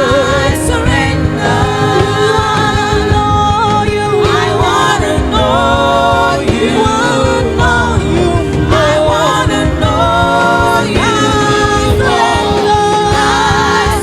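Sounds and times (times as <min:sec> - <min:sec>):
gospel voices singing: 0:00.0 - 0:14.0
instrumental accompaniment: 0:00.0 - 0:14.0.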